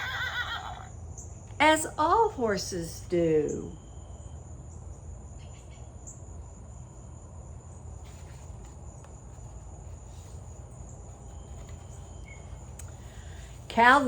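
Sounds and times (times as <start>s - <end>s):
crickets chirping: 0.0s - 14.0s
low background rumble: 0.0s - 14.0s.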